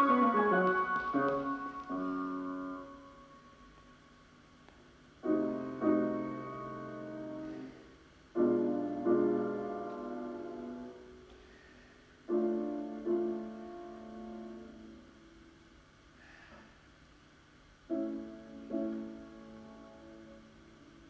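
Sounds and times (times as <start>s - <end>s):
slow solo piano: 0.0s - 3.9s, 4.7s - 11.6s, 12.2s - 15.2s, 17.9s - 21.0s.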